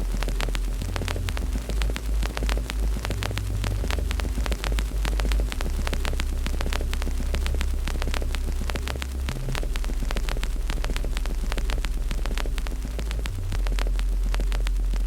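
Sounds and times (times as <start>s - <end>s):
loud deep steady hum: 0.0s - 15.0s
wood fire crackling and popping: 0.0s - 15.0s.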